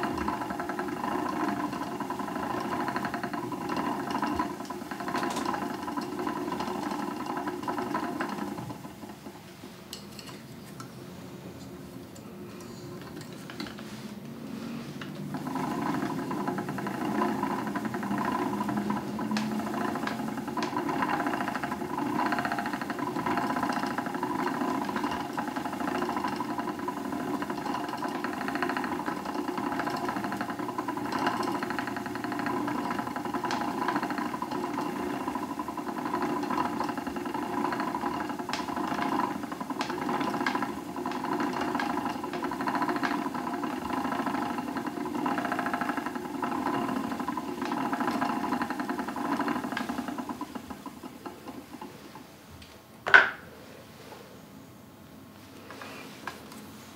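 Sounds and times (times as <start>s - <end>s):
spinning wheel whirring: 0.0s - 9.7s, 14.8s - 52.4s.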